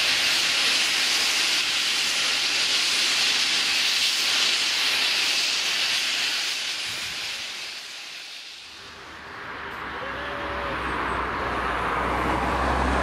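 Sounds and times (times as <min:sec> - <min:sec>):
steam train hissing: 0:00.0 - 0:13.0.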